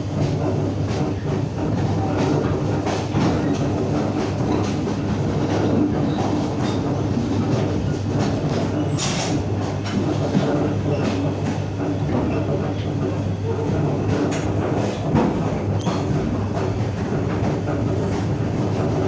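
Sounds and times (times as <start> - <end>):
electric train running hum: 0.0 - 19.0.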